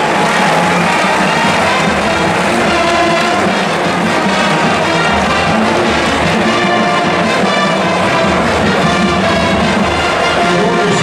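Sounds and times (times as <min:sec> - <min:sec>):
marching band brass playing: 0:00.0 - 0:11.0.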